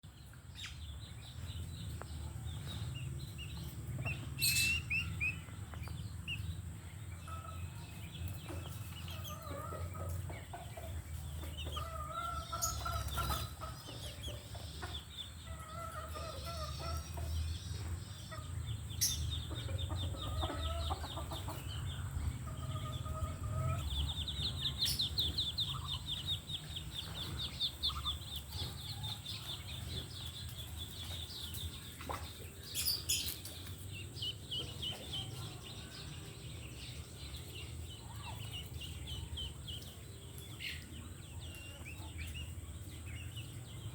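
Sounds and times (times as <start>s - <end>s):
birds calling: 0.0s - 43.9s.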